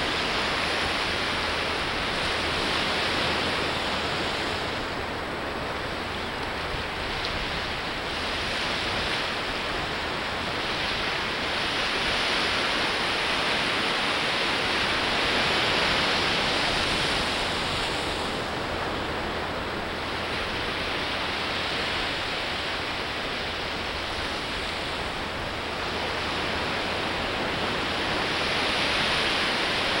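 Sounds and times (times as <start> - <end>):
ocean surf breaking on shore: 0.0 - 30.0.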